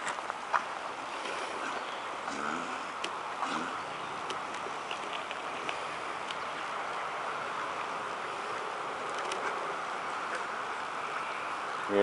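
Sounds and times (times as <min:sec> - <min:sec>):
creek flowing over stones: 0:00.0 - 0:12.0.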